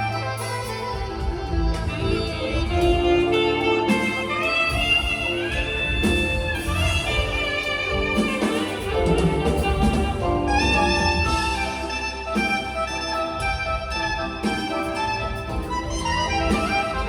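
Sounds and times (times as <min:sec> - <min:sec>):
live band accompaniment: 0:00.0 - 0:17.0
two saxophones playing a melody: 0:00.0 - 0:17.0.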